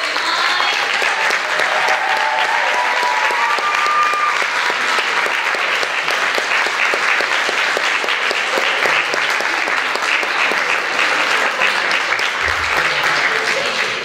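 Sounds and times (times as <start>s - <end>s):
audience applauding: 0.0s - 14.0s
people cheering: 0.0s - 14.0s.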